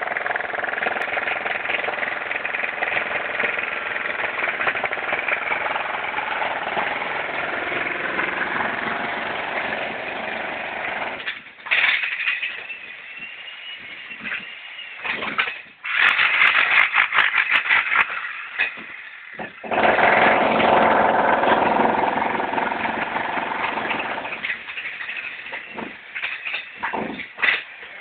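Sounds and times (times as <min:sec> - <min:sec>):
power tool working against masonry: 0:00.0 - 0:28.0.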